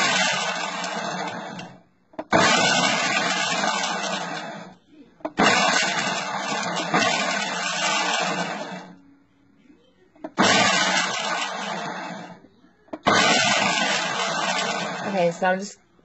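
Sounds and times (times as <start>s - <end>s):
blender motor pulsing: 0.0s - 9.0s, 10.3s - 12.4s, 13.0s - 15.7s.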